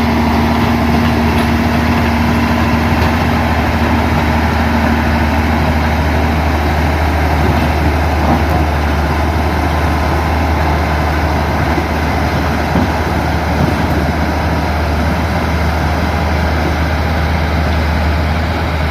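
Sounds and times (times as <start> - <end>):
grader diesel engine droning: 0.0 - 18.9
machine working earth: 0.0 - 18.9.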